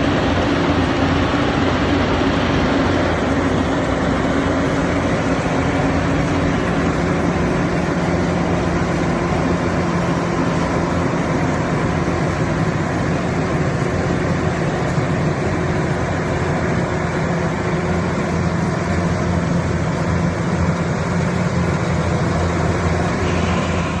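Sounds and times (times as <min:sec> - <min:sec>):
harvester engine humming: 0:00.0 - 0:24.0.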